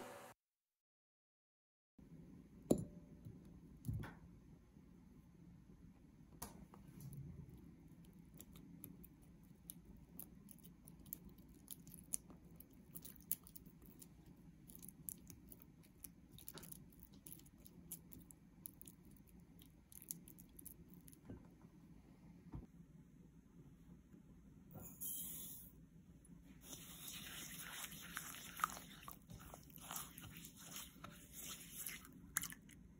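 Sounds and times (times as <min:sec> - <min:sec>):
low steady hum: 0:02.0 - 0:32.9.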